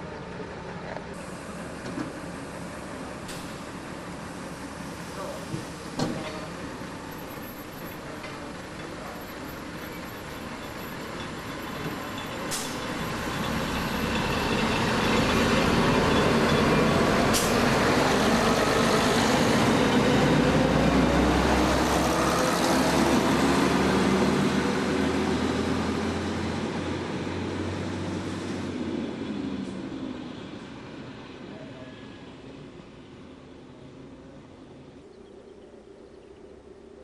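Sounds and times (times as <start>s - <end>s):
diesel railcar passing: 0.0s - 37.0s.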